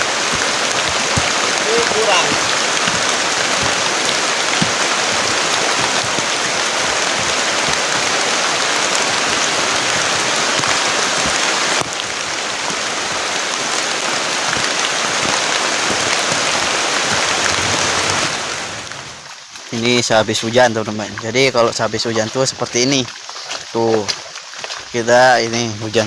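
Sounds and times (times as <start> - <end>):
dull rush of water: 0.0 - 26.0
heavy rain pouring: 0.0 - 26.0.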